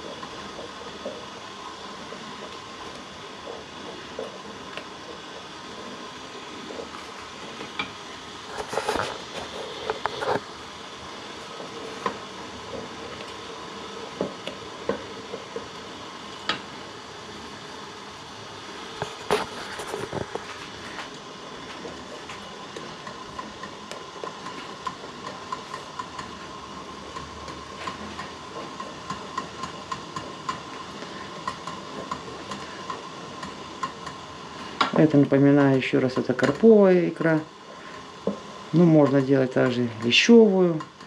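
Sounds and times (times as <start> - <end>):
steaming water hiss: 0.0 - 41.0.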